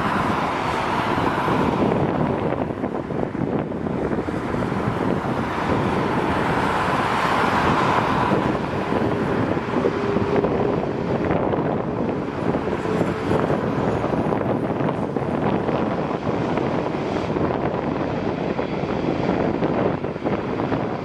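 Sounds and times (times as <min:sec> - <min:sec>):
wind buffeting the microphone: 0:00.0 - 0:21.0.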